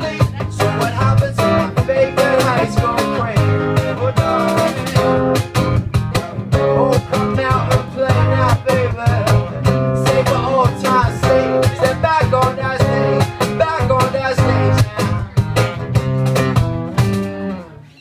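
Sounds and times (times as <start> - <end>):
man singing: 0.0 - 15.8
electric bass: 0.0 - 18.0
strummed acoustic guitar: 0.0 - 18.0.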